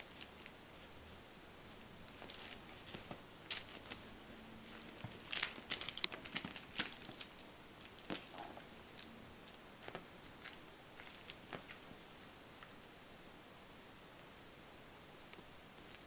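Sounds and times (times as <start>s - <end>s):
kitten crinkling and rustling: 0.0s - 12.8s, 15.4s - 16.0s.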